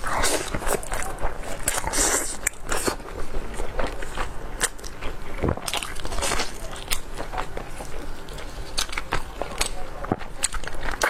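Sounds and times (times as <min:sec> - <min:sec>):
chewing and biting food: 0:00.0 - 0:11.0.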